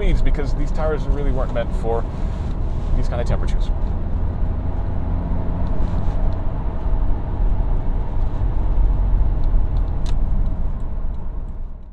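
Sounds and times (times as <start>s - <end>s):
car engine running: 0.0s - 11.9s
exhaust tyre and wind noise: 0.0s - 11.9s.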